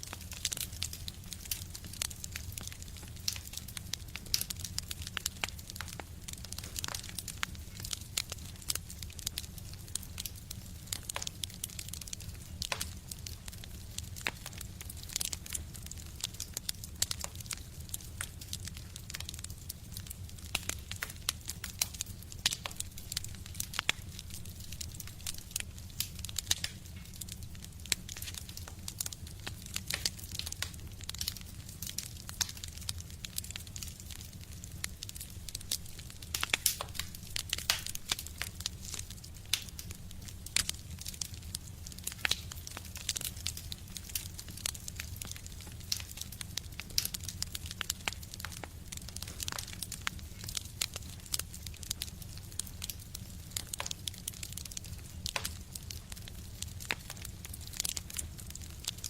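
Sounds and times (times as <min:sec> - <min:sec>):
low rumble of stove: 0:00.0 - 0:59.0
wood fire crackling: 0:00.0 - 0:59.0.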